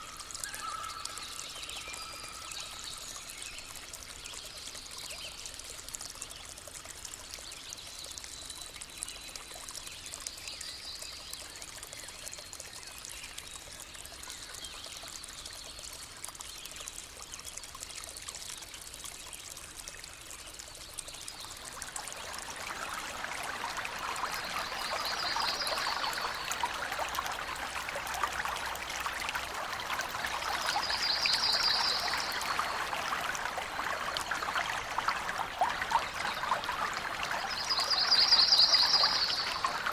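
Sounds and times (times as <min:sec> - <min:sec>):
stream trickling and pouring: 0:00.0 - 0:39.9.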